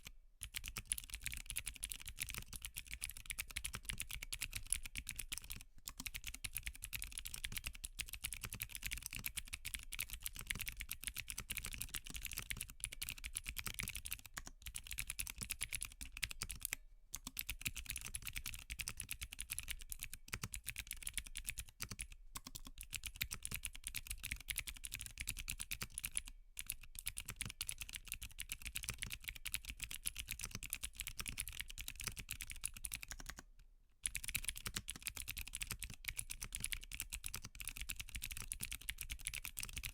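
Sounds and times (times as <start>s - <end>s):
mechanical keyboard typing clicks: 0.4s - 33.4s, 34.0s - 39.9s.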